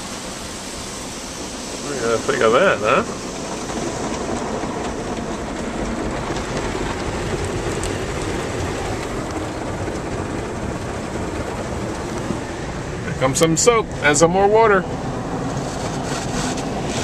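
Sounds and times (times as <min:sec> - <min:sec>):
car wash water spraying: 0:00.0 - 0:17.0.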